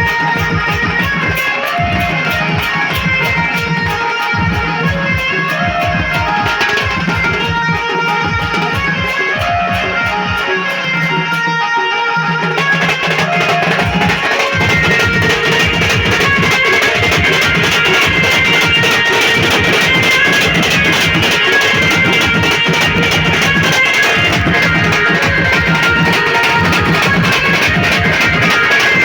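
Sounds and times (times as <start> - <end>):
fast steady drumming: 0.0 - 29.0
plucked string lead line: 0.0 - 29.0.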